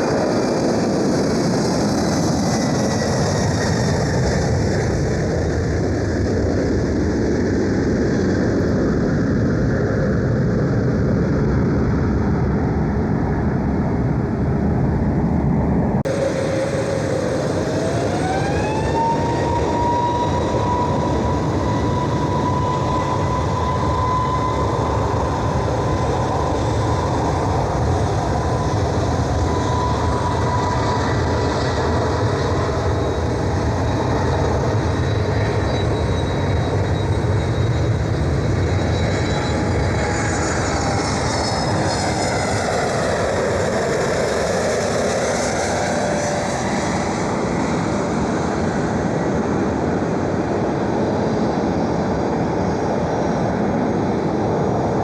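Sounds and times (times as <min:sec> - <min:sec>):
jet engine whine rising: 0:00.0 - 0:55.0
jet engines running: 0:00.0 - 0:55.0.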